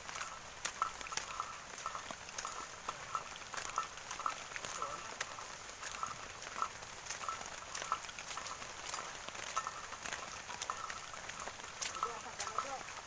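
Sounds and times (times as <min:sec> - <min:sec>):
drops ticking: 0:00.0 - 0:13.0
rain hissing: 0:00.0 - 0:13.0.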